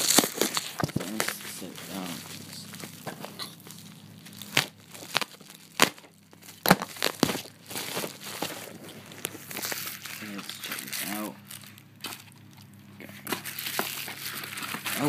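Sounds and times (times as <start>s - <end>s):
package wrapping crinkling: 0.0s - 15.0s.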